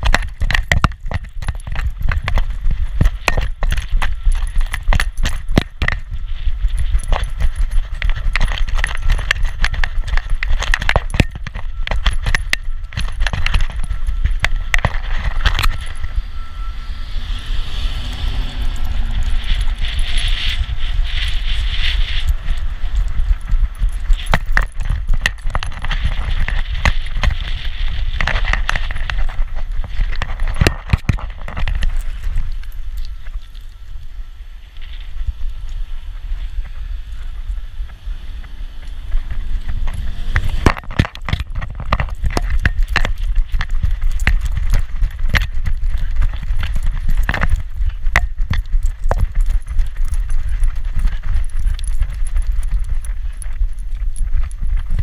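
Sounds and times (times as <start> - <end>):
harness clicks and rattles: 0.0 - 33.6, 38.8 - 55.0
wind buffeting camera: 0.0 - 55.0.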